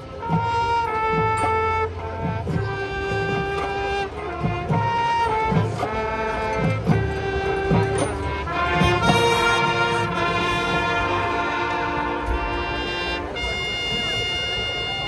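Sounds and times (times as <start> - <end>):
marching band slow melody: 0.0 - 15.0
drum hits: 0.2 - 12.6.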